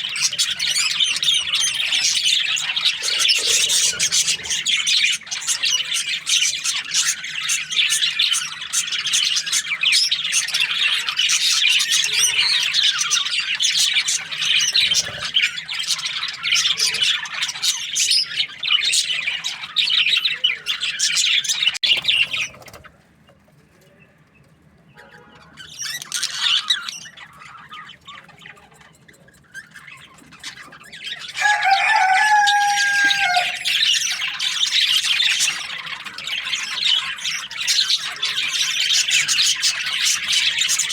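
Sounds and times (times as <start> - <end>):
budgerigars chirping: 0.0 - 22.7, 25.1 - 40.9.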